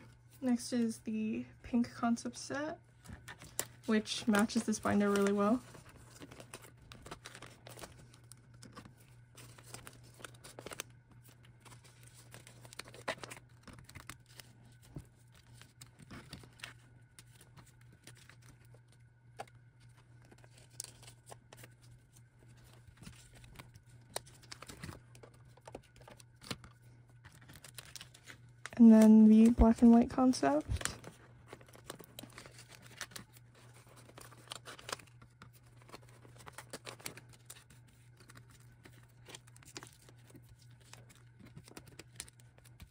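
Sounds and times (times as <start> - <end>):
plastic crinkling and rustling: 3.0 - 42.9.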